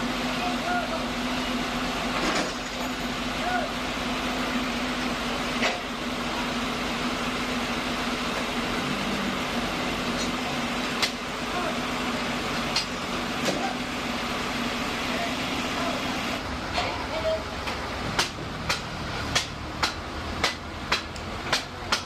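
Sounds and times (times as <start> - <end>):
sawmill machinery humming: 0.0 - 22.0.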